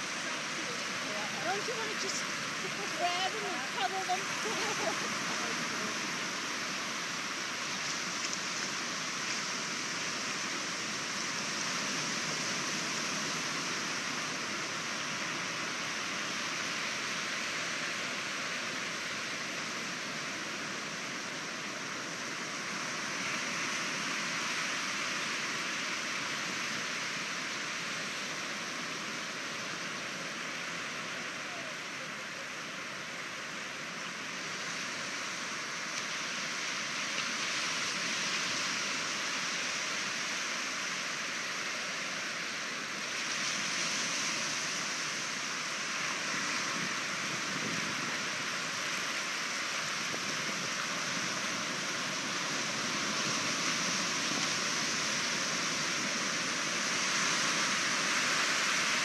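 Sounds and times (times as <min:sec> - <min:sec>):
small waves breaking: 0:00.0 - 0:59.0
water washing over sand: 0:00.0 - 0:59.0.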